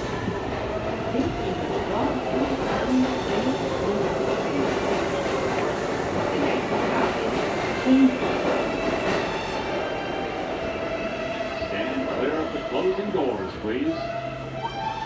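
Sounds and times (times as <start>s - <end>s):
subway car hum and rumble: 0.0s - 15.0s.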